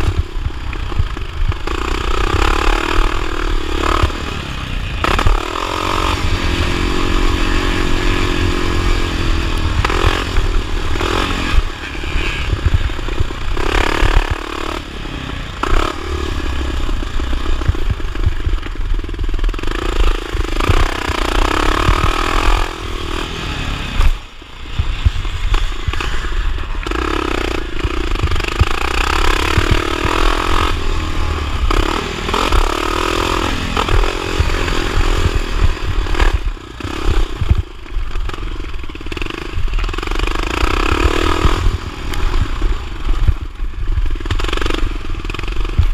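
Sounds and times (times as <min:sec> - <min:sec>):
motorcycle engine revving hard: 0:00.0 - 0:45.9.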